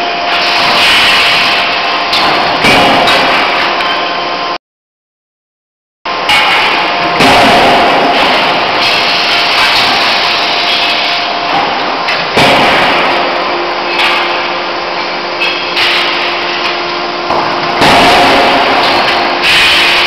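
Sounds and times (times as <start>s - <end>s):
loud machinery hum: 0.0s - 4.6s, 6.1s - 20.0s.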